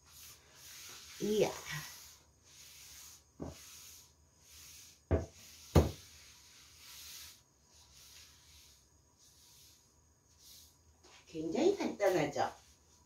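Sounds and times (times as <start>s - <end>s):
paper towel rubbing wooden table: 0.0s - 13.0s.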